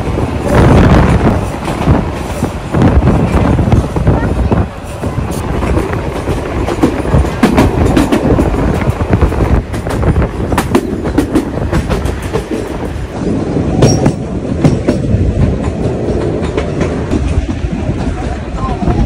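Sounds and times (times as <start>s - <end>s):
wheels clacking over rails: 0.0s - 13.2s, 13.8s - 19.0s
train rumble: 0.0s - 19.0s.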